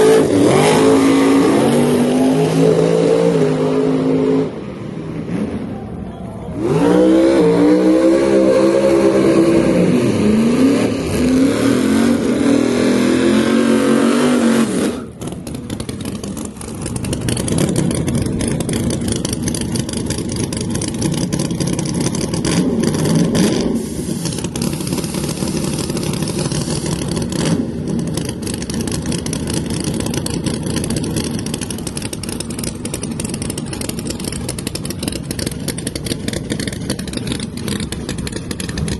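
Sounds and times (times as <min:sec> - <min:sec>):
race car engine revving: 0:00.0 - 0:38.9
rough steady engine: 0:00.0 - 0:38.9.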